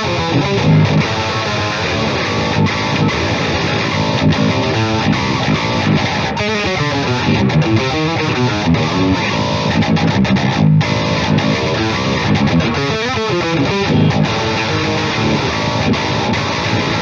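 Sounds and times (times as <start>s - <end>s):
distorted electric guitar riff: 0.0s - 17.0s.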